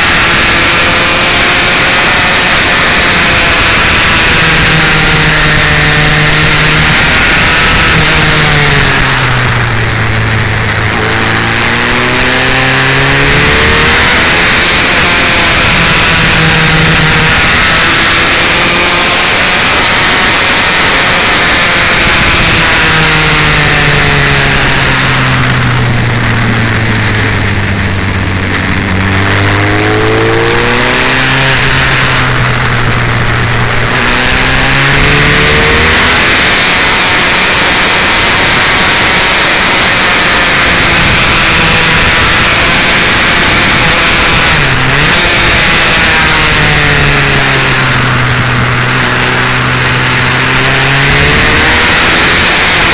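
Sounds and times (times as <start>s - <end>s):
motorcycle engine: 0.0s - 52.9s
wind noise on microphone: 0.0s - 52.9s.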